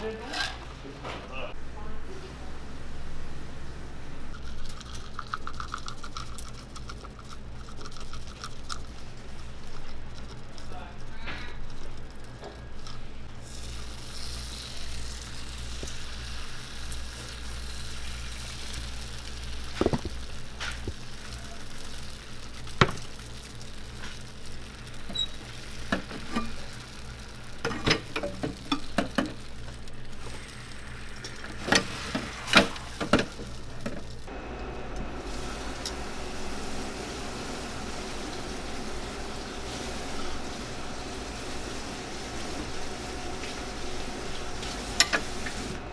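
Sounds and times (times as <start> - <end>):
batter sizzling in a pan: 4.5 - 34.3, 35.2 - 45.8.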